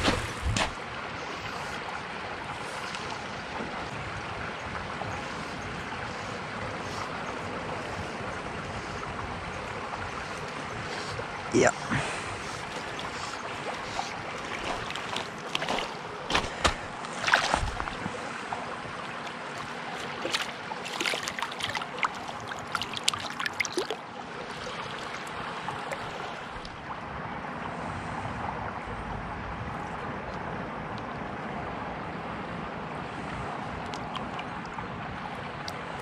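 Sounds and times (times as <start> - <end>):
water splashing: 0.0 - 27.0, 33.2 - 36.0.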